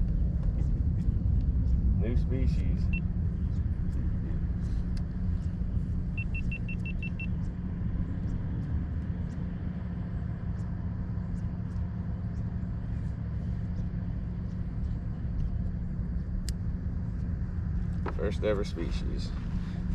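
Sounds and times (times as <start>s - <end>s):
boat motor rumbling: 0.0s - 19.9s.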